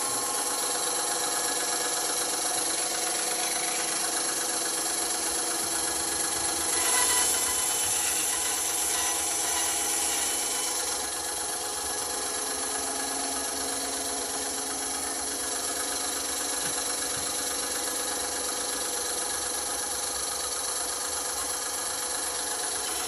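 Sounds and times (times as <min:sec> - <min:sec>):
band saw running with rattle: 0:00.0 - 0:23.0.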